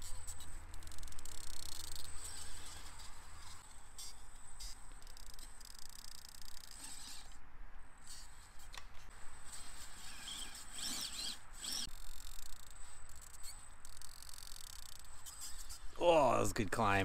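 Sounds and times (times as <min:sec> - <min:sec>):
small electric motor whining: 0:00.0 - 0:07.4, 0:08.0 - 0:16.0.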